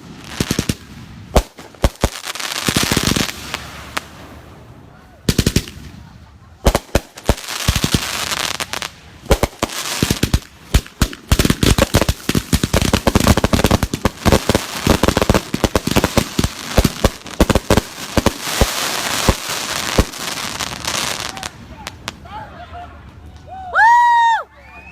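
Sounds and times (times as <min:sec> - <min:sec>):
firework bangs: 0:00.0 - 0:04.4, 0:05.2 - 0:22.2
firework crackling: 0:00.0 - 0:22.2.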